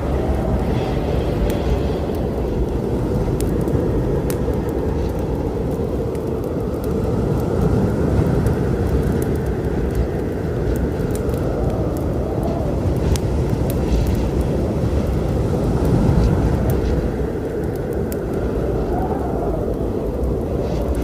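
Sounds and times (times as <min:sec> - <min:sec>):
low storm rumble: 0:00.0 - 0:21.0
wood fire crackling and popping: 0:00.0 - 0:21.0.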